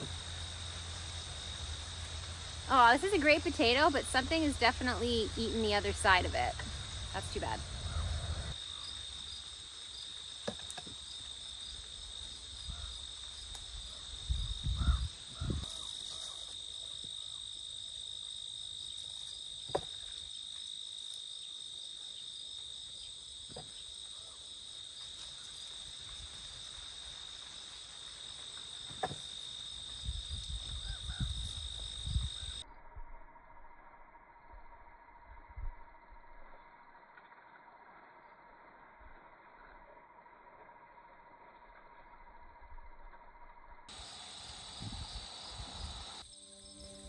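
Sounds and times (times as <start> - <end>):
high-pitched insect trill: 0.0 - 47.0.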